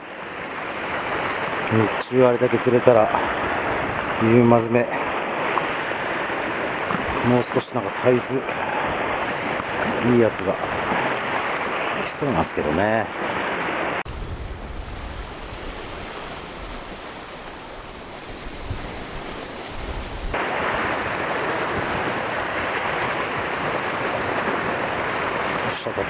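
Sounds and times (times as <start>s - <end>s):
sea surf washing over rocks: 0.0s - 26.0s
wind gusts on microphone: 0.0s - 26.0s.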